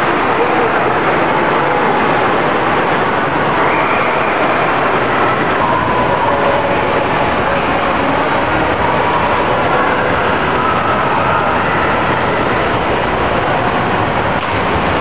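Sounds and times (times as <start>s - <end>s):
faint wavering sounds: 0.0s - 15.0s
indoor swimming pool din: 0.0s - 15.0s.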